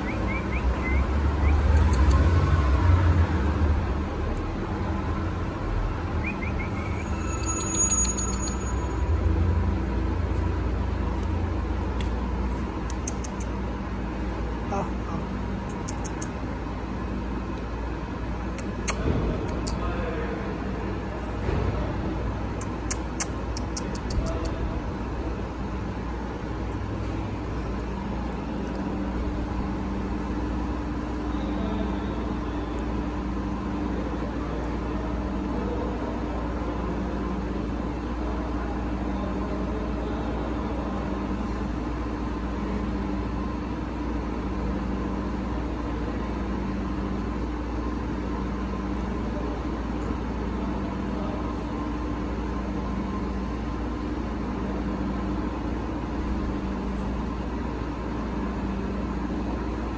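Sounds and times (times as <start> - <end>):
low machinery hum: 0.0 - 59.9.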